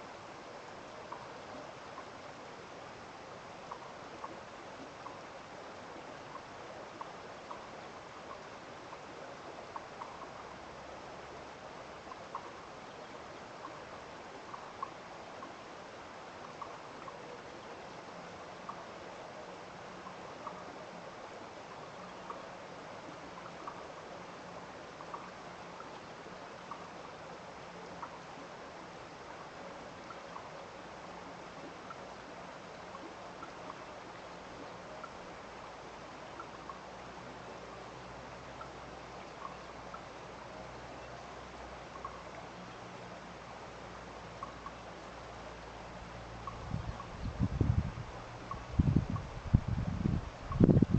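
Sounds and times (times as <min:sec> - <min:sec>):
running water hiss: 0:00.0 - 0:50.9.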